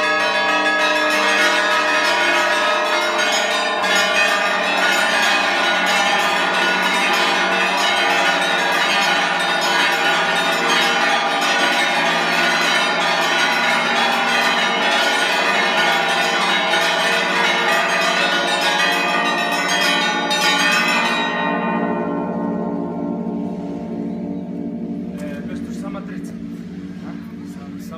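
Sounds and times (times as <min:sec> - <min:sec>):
bells pealing: 0:00.0 - 0:27.9.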